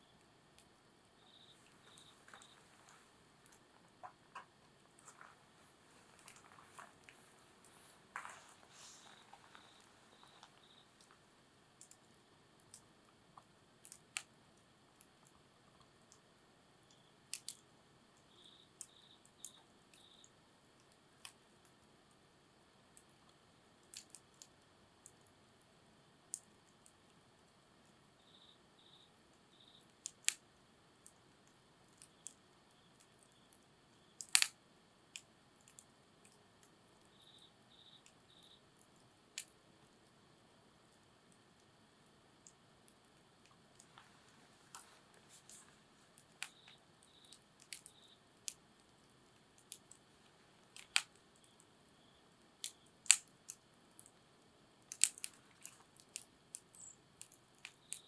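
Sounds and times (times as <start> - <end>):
campfire crackling: 0.1 - 28.2, 29.2 - 58.0
sharp pops and snaps: 0.5 - 22.2, 22.9 - 25.4, 26.2 - 40.2, 40.8 - 58.0.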